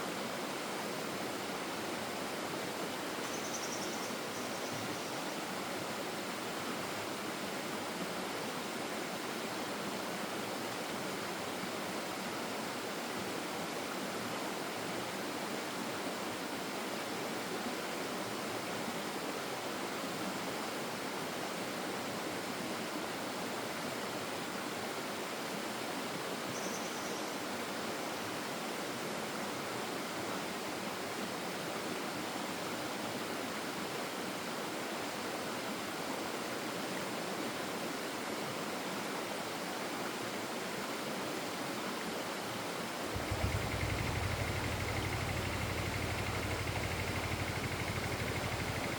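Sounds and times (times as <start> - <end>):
stream rushing over rocks: 0.0 - 3.2, 5.3 - 26.5, 27.4 - 43.4.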